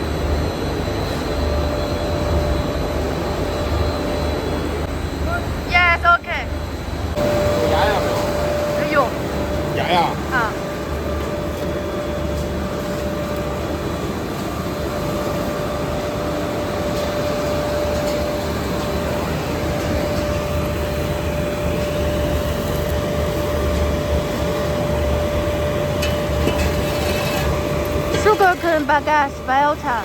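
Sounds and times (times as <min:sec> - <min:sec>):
low machine rumble: 0:00.0 - 0:30.0
mid-pitched machine whine: 0:00.0 - 0:30.0.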